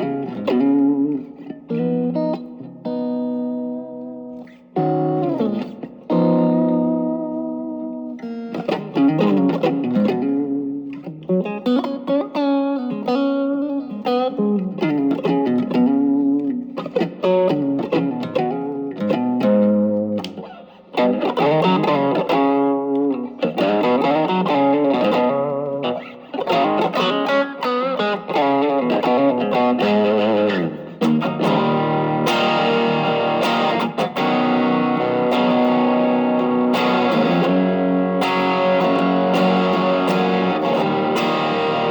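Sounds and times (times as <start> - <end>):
overdriven electric guitar: 0.0 - 41.9.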